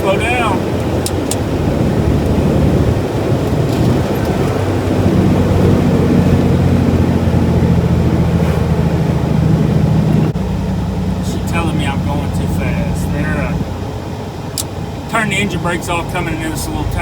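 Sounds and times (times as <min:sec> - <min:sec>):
road noise: 0:00.0 - 0:17.0
truck diesel engine drone: 0:00.0 - 0:17.0.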